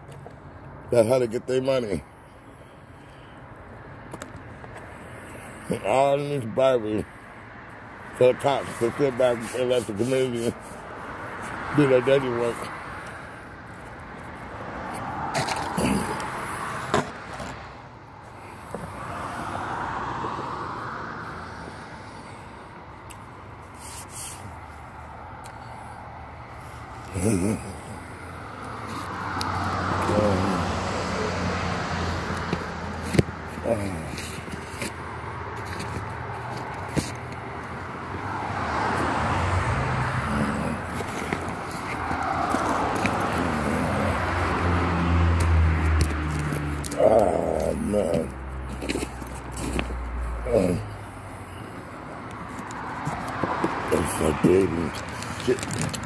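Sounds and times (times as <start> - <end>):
vehicle passing: 4.5 - 56.0.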